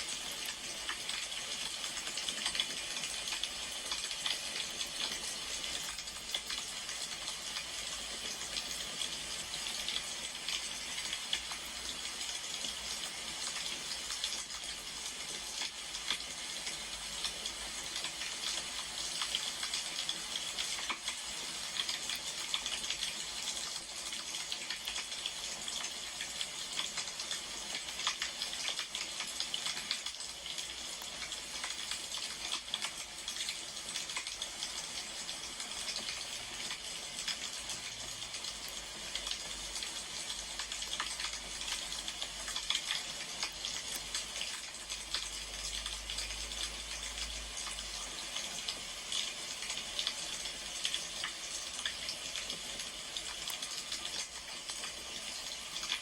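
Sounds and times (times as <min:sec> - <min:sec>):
wood fire crackling and popping: 0:00.0 - 0:11.9, 0:15.2 - 0:37.8, 0:38.4 - 0:56.0.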